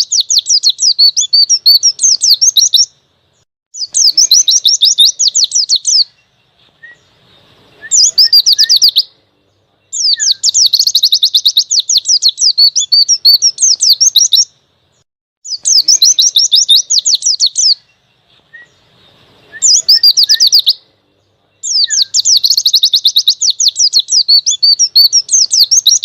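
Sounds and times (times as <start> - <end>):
bird chattering trills: 0.0 - 2.9, 3.8 - 6.3, 7.0 - 9.2, 9.8 - 14.5, 15.4 - 26.0.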